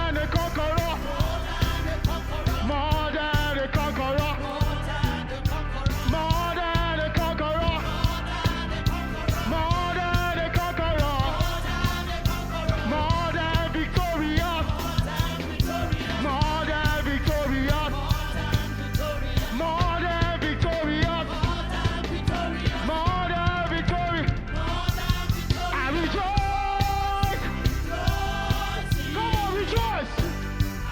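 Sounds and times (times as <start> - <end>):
live gospel band: 0.0 - 30.9
steady drum beat: 0.0 - 30.9
voices singing: 0.0 - 30.9.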